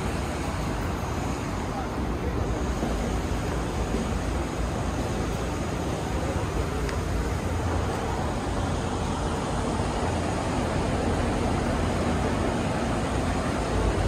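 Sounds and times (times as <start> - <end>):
heavy low outdoor rumble: 0.0 - 14.0.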